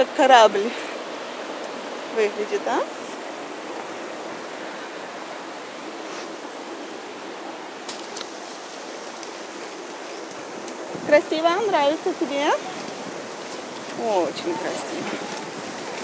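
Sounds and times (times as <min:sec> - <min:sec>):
fast-flowing river rushing: 0:00.0 - 0:16.0.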